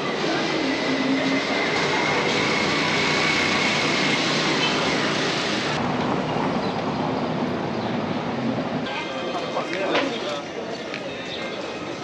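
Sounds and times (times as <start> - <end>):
tram rolling over rails: 0.0 - 12.0.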